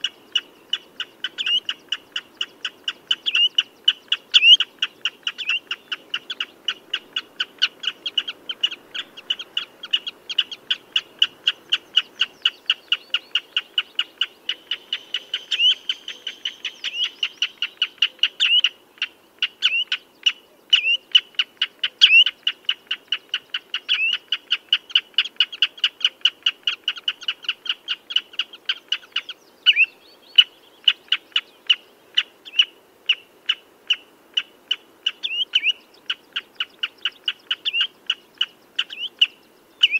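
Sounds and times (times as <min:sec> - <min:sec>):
wader piping calls: 0:00.0 - 0:39.9.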